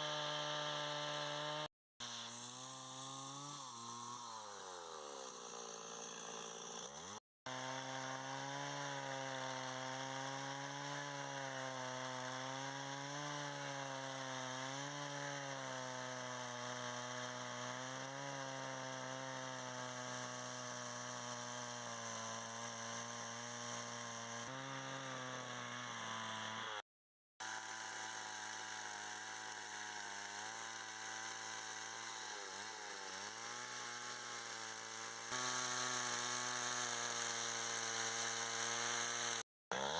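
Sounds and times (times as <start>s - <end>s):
small engine running: 0.0s - 26.8s, 27.4s - 39.9s.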